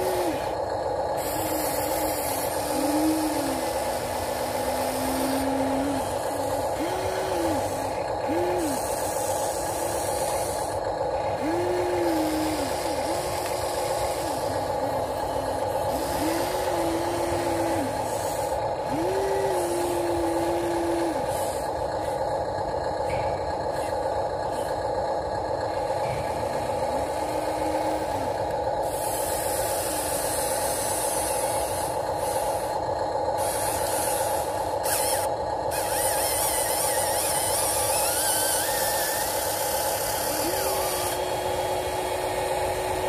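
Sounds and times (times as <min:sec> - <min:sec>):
electric motors whining: 0:00.0 - 0:43.0
steady mechanical hum: 0:00.0 - 0:43.0.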